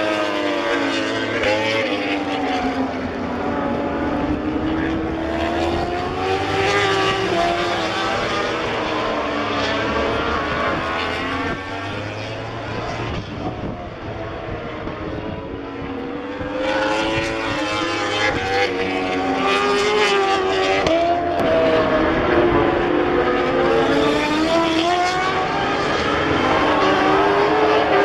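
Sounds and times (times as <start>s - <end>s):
racing motorcycles passing: 0.0s - 28.0s.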